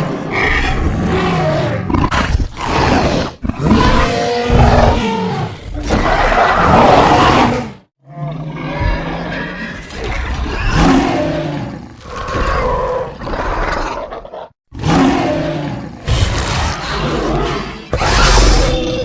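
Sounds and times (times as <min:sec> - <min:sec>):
dinosaur roar: 0:00.0 - 0:19.0.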